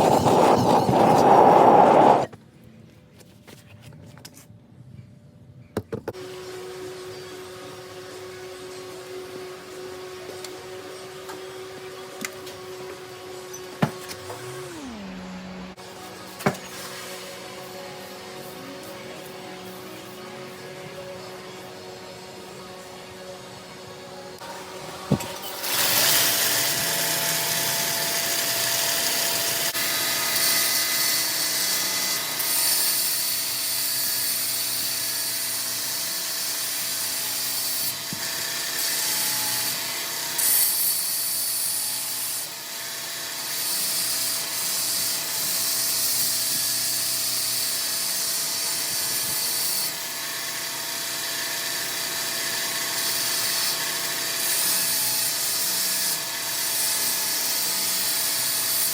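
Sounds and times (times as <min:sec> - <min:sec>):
electric grinder on steel blade: 0:00.0 - 0:02.3, 0:06.3 - 0:20.3, 0:24.4 - 0:58.9.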